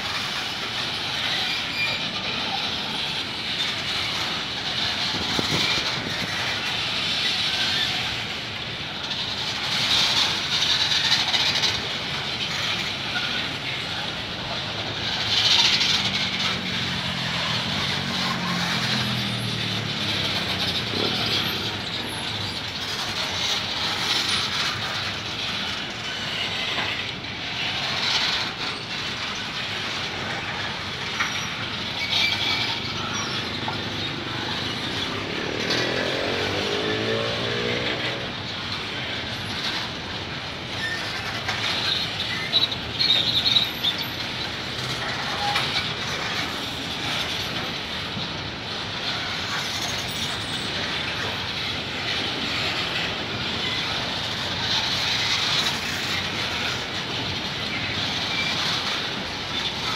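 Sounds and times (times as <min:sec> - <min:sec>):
high wheel squeals: 0:00.0 - 0:59.9
train wagons rumbling and rattling: 0:00.0 - 0:59.9
wheels clacking on rails: 0:00.0 - 0:59.9.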